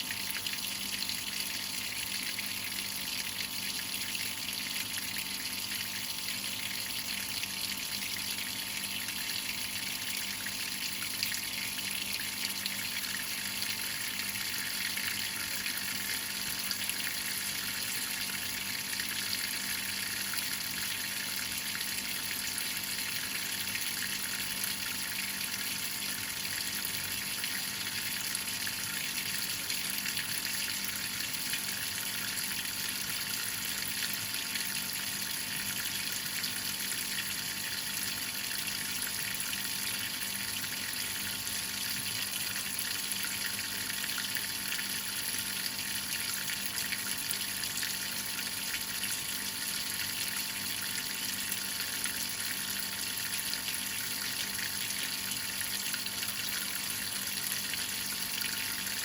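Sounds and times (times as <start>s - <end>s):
faint steady hum: 0.0s - 59.0s
water running in washing machine: 0.0s - 59.0s.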